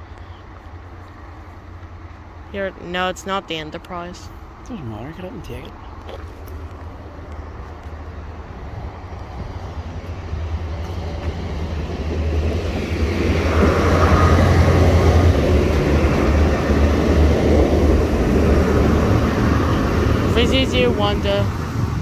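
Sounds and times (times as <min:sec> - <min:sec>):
train engine and wheel rumble: 0:00.0 - 0:22.0.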